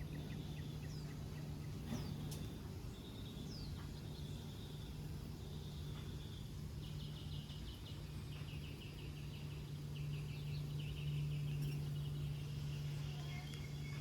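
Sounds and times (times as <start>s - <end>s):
bird chirping in high trills: 0.0s - 14.0s
steady low hum: 0.0s - 14.0s.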